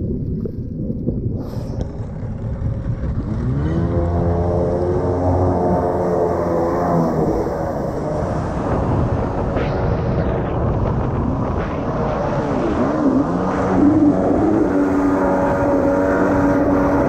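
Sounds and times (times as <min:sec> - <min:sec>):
jet ski engine running: 0:00.5 - 0:17.0.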